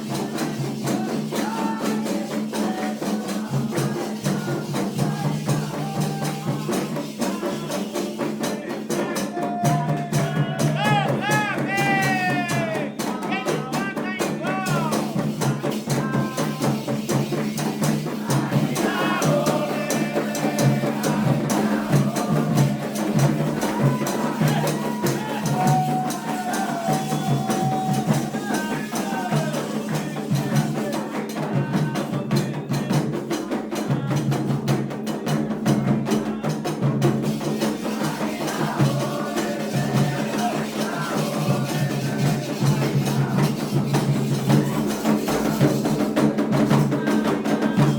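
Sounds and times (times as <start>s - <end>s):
hand drums playing: 0.0s - 47.9s
voices singing a chant: 0.0s - 47.9s.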